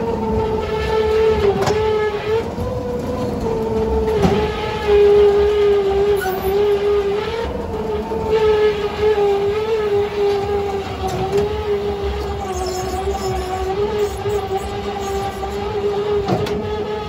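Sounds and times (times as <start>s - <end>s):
ride car rumbling along track: 0.0s - 17.0s
steady droning tone: 0.0s - 17.0s.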